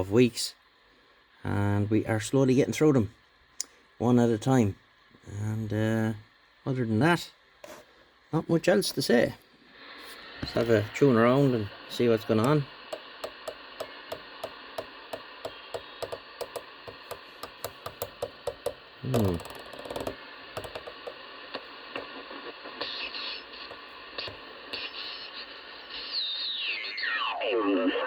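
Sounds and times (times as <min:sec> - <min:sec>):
radio receiver hiss: 0:00.0 - 0:28.0.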